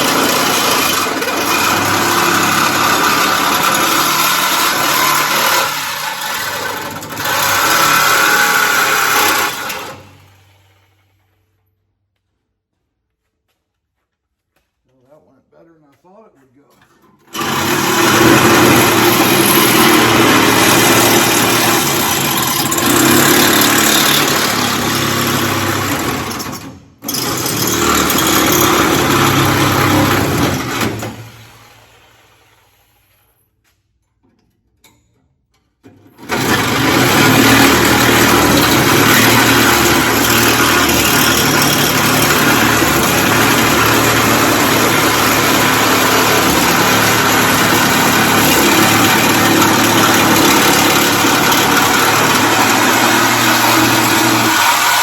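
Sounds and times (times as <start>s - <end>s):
reciprocating saw cutting sheet metal: 0.0s - 10.4s, 17.3s - 32.8s, 36.2s - 55.0s.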